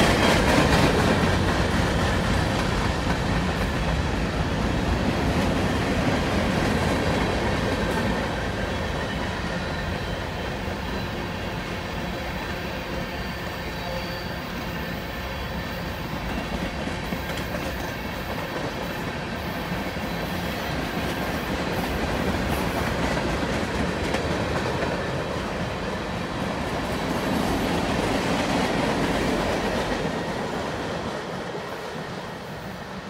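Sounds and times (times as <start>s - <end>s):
steel wheels rumbling on track: 0.0s - 13.6s, 14.3s - 33.0s.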